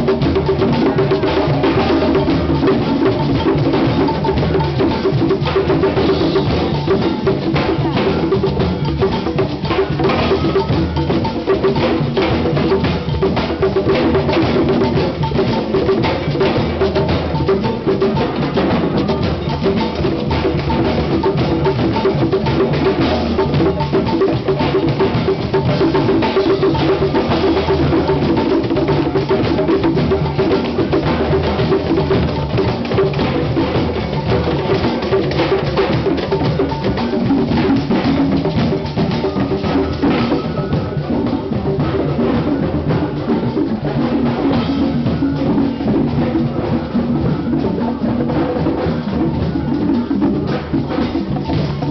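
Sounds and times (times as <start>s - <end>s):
hand drums playing fast groove: 0.0s - 51.9s.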